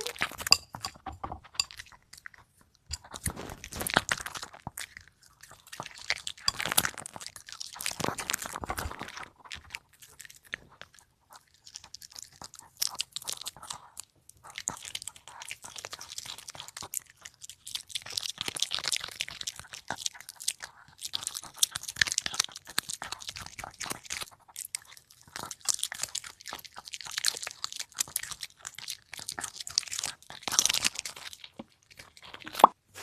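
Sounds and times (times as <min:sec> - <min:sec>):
puppy crunching food: 0:00.0 - 0:33.0.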